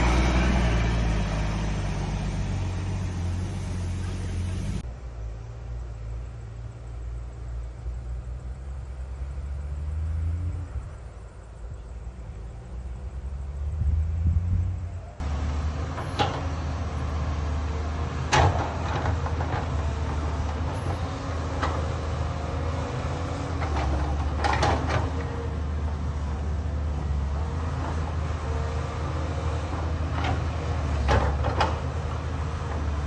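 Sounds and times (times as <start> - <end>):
excavator diesel engine running: 0.0 - 8.6, 9.6 - 33.0.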